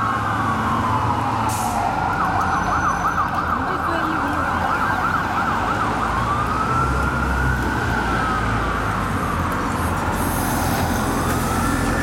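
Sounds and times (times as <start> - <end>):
fire truck siren wailing: 0.0 - 12.0
traffic and engine rumble: 0.0 - 12.0.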